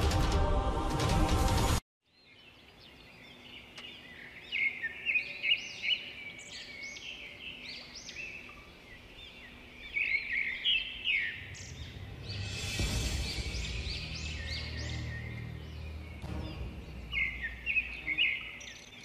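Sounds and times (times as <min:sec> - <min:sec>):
faint outdoor hiss: 0:02.0 - 0:19.0
high bird chirps: 0:03.4 - 0:19.0.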